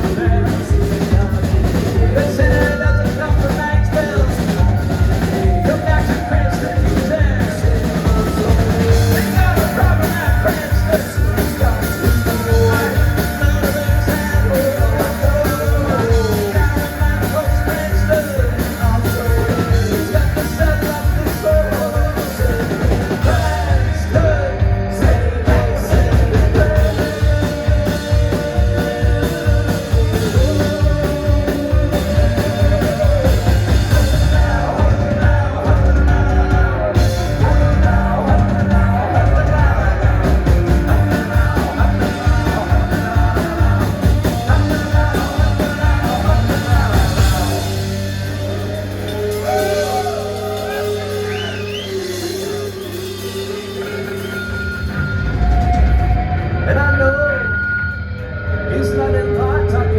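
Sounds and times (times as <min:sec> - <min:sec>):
fast drum beat: 0:00.0 - 0:56.3
person singing: 0:00.0 - 0:59.9
rock band playing: 0:00.0 - 0:59.9.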